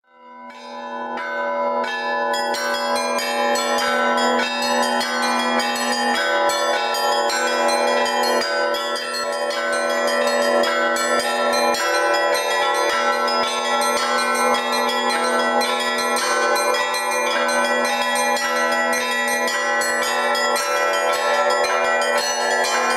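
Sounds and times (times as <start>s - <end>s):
large church bells ringing: 0.1s - 22.9s
small church bells ringing: 0.1s - 22.9s.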